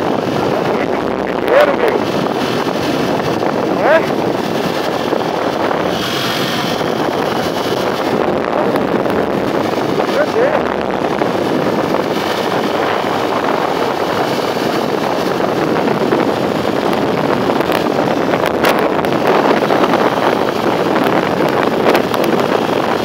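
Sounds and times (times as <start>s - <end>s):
motorcycle engine and road noise: 0.0s - 23.0s
wind rushing over microphone: 0.0s - 23.0s.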